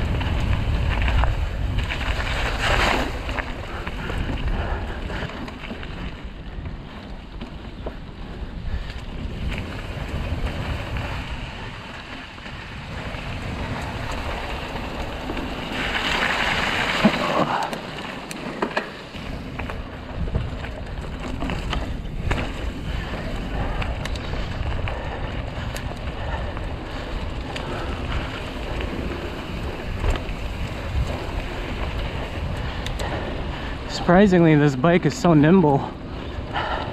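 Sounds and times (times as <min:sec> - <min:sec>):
bike clicks and rattles: 0:00.0 - 0:36.9
bike tyres rushing on dirt: 0:00.0 - 0:36.9
wind buffeting microphone: 0:00.0 - 0:36.9.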